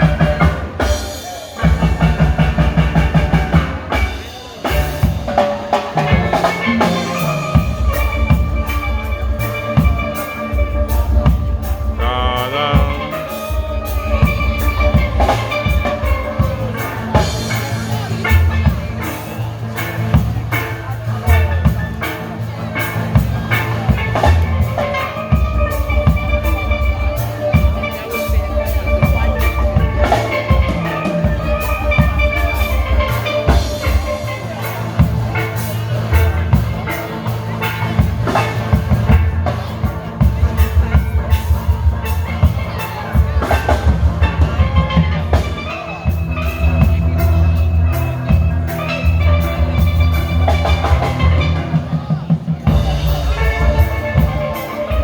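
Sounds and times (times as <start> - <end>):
drum kit and bass beat: 0.0 - 55.0
steel pans playing melody: 0.0 - 55.0.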